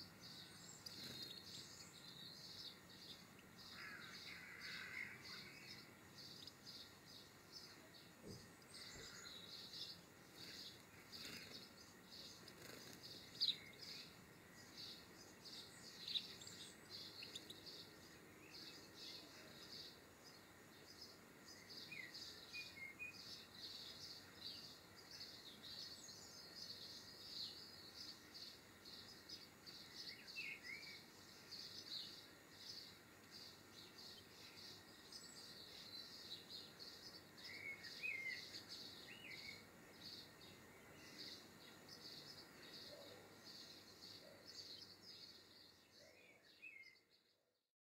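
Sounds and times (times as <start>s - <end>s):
lower sweeping bird calls: 0.0s - 47.1s
songbirds twittering: 0.0s - 47.5s.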